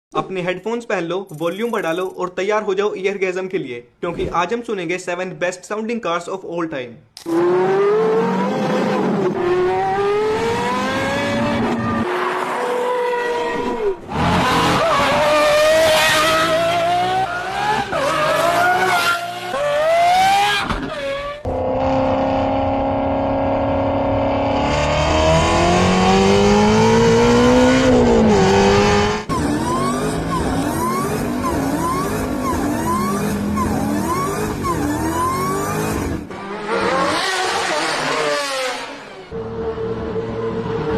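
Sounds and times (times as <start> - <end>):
car engines revving: 7.2 - 40.9.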